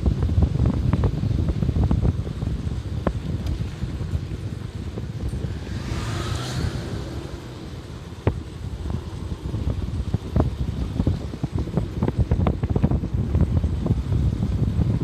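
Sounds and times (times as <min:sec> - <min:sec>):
vehicle rumble: 0:00.0 - 0:15.0
wind noise: 0:00.0 - 0:15.0.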